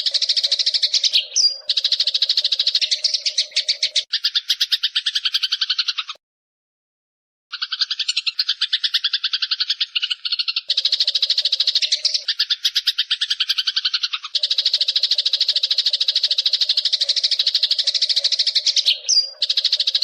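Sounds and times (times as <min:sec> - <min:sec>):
sparrow rattling chatter: 0:00.0 - 0:06.2, 0:07.5 - 0:20.0.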